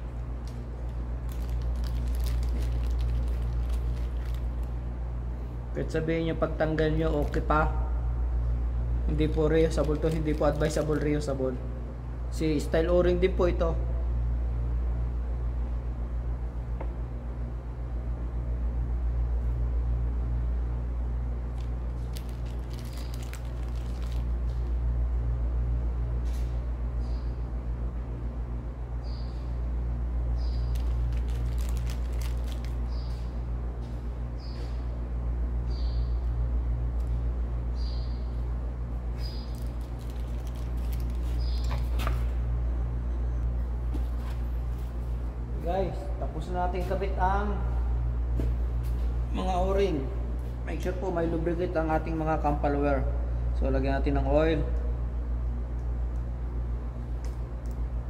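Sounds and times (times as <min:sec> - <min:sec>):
low machinery hum with throb: 0:00.0 - 0:58.0.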